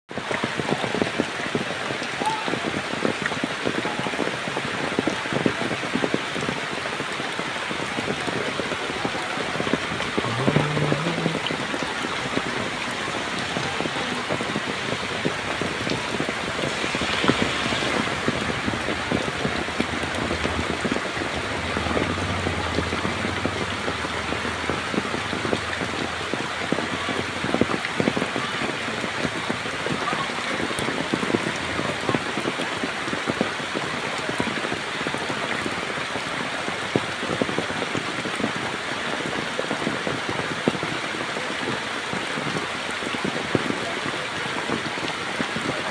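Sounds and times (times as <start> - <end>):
heavy rain falling: 0.1 - 45.9.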